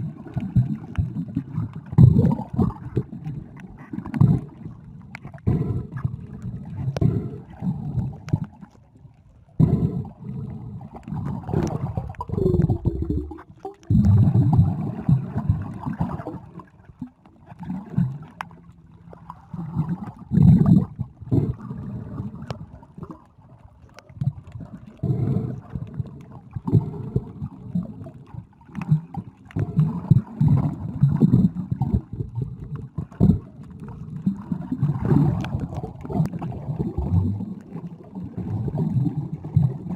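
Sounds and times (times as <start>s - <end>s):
muffled water sloshing underwater: 0.0s - 39.9s.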